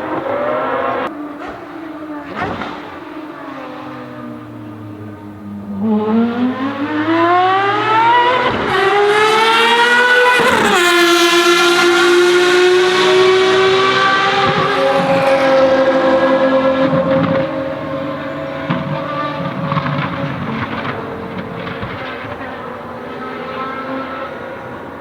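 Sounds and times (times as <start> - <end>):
racing engine accelerating: 0.0 - 25.0.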